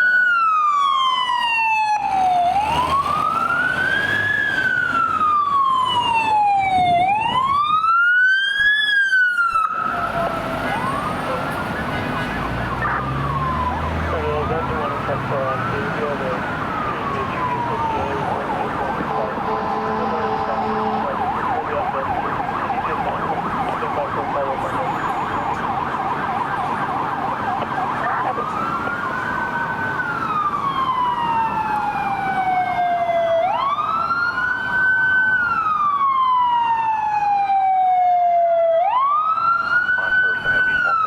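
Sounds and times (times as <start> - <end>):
second siren wailing: 0.0 - 41.0
siren yelping and wailing: 0.0 - 41.0.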